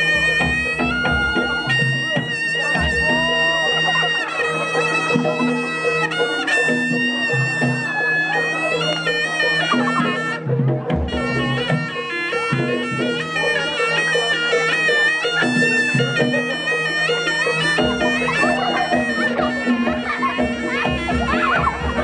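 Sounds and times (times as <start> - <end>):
shrill reed trumpet melody: 0.0 - 22.0.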